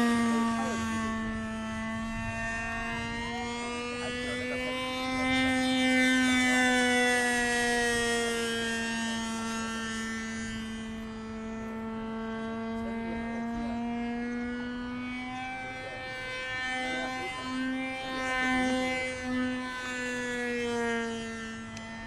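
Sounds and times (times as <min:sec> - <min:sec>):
model aircraft motor whining: 0:00.0 - 0:22.0.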